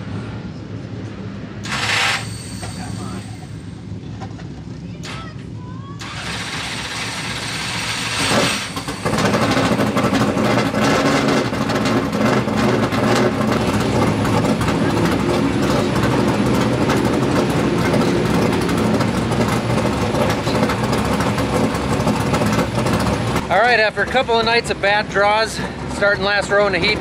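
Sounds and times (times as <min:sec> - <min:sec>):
race car engine starting and idling: 0:01.1 - 0:03.0, 0:03.8 - 0:27.0.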